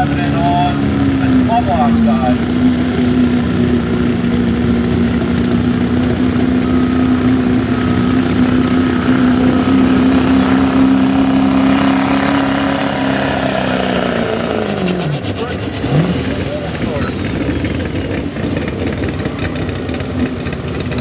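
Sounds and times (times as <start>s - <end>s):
truck engine at high revs: 0.0s - 21.0s.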